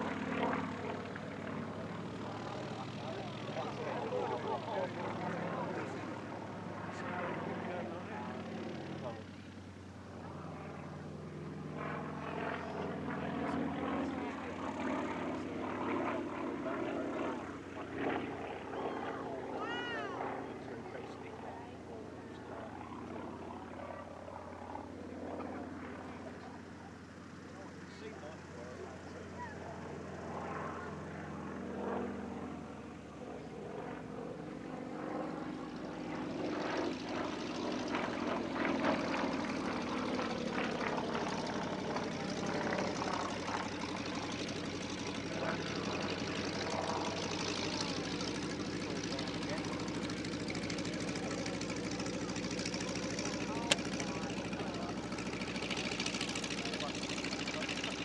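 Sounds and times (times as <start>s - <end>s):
propeller aircraft engine in flight: 0.0s - 58.0s.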